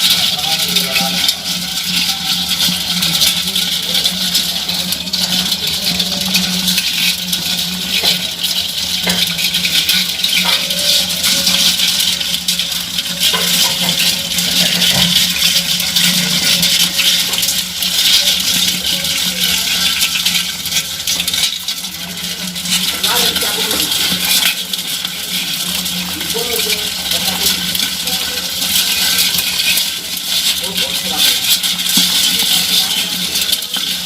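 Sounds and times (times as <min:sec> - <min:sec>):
crabs clicking and crackling: 0:00.0 - 0:34.0.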